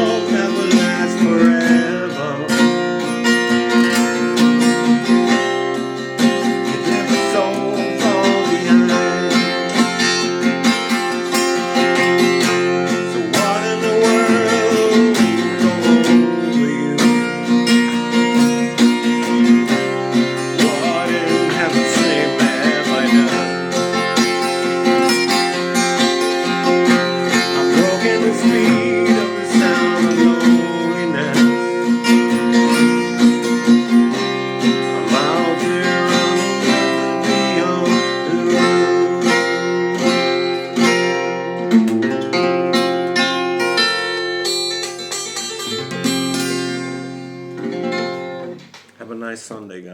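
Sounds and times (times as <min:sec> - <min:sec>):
acoustic guitar music: 0:00.0 - 0:49.9.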